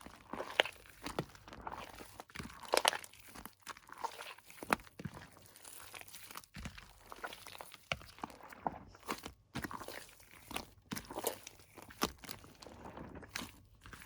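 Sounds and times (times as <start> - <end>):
crunchy slime crackling: 0.0 - 14.0.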